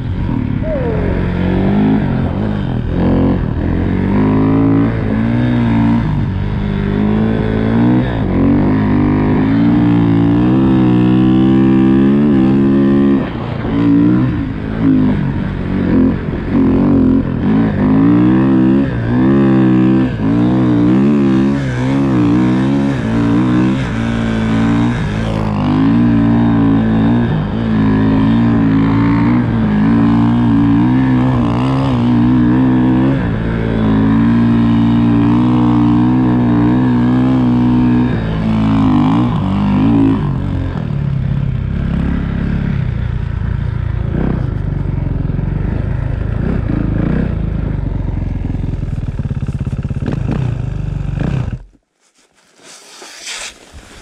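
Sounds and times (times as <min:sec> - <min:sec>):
snow bike engine revving: 0:00.0 - 0:54.0.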